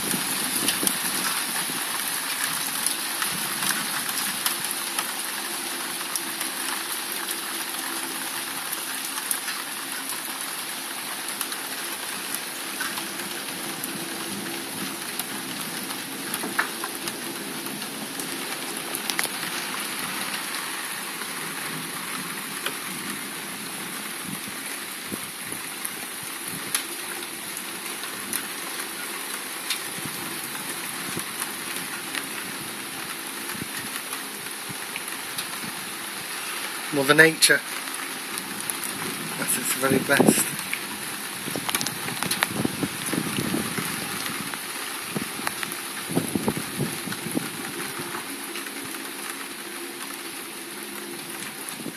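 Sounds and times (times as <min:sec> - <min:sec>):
raindrops ticking on surfaces: 0:00.0 - 0:51.9
steady rain falling: 0:00.0 - 0:51.9.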